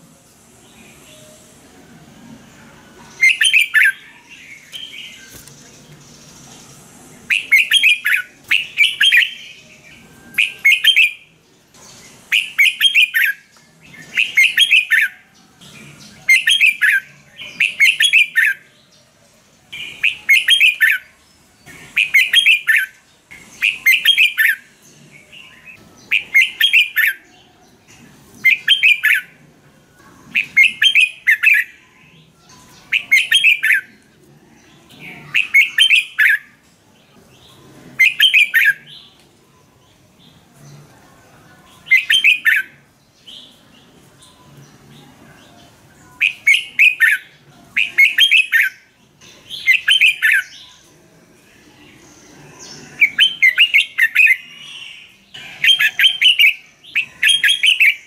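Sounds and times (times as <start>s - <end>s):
bird singing warbled phrases: 2.8s - 40.9s, 41.6s - 58.0s.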